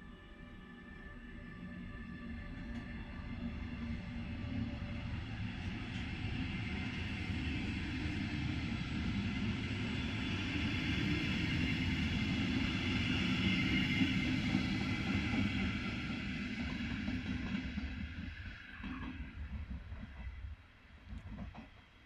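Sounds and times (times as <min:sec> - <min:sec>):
train wheels rumbling on rails: 0:02.0 - 0:22.0.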